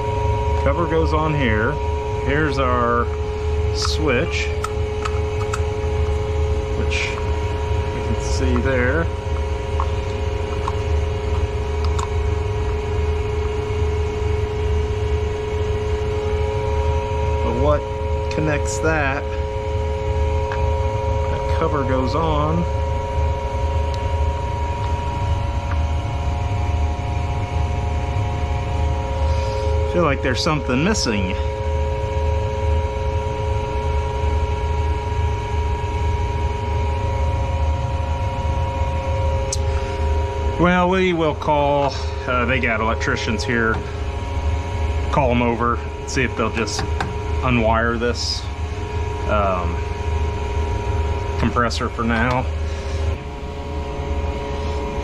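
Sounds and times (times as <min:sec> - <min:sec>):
low rumble: 0:00.0 - 0:55.0
machinery drone: 0:00.0 - 0:55.0
mechanical hum: 0:00.0 - 0:55.0.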